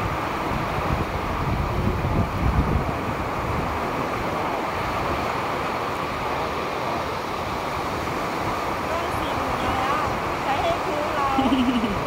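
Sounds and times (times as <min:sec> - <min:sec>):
waves washing on shore: 0:00.0 - 0:12.0
wind on microphone: 0:00.0 - 0:12.0.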